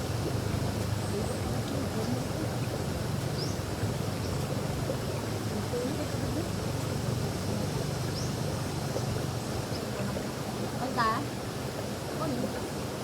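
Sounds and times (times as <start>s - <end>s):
creek flowing: 0.0s - 13.0s.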